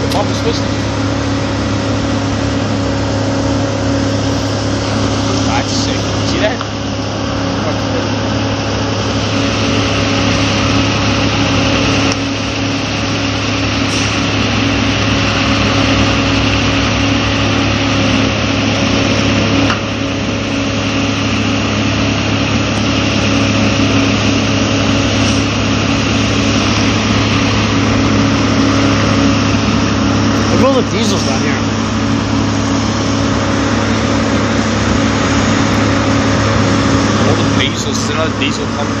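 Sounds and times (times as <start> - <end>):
engine running steadily: 0.0 - 39.0.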